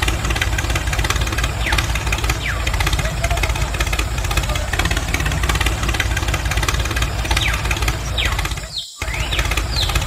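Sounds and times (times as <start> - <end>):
tractor engine chugging: 0.0 - 10.0.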